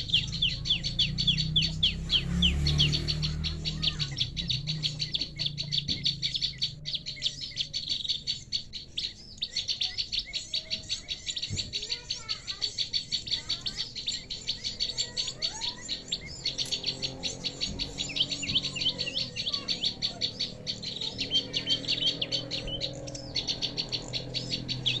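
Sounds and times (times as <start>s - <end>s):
birds chattering and trilling: 0.0s - 25.0s.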